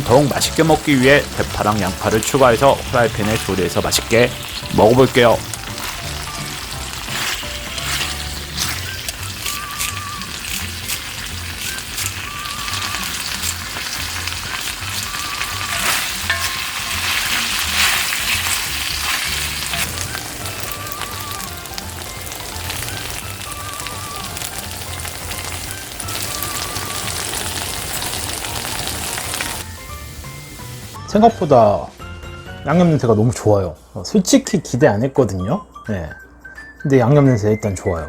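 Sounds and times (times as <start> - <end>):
meat sizzling in a frying pan: 0.0 - 31.0.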